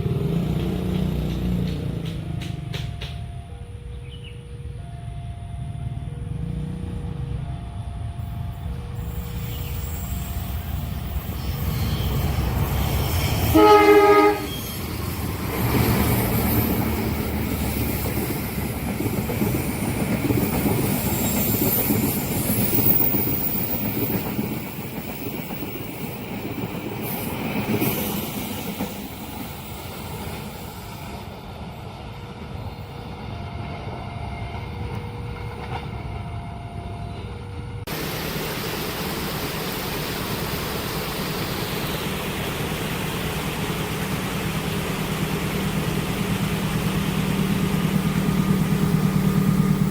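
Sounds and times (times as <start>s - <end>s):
train wheels on rails: 0.0s - 4.2s, 6.3s - 49.9s.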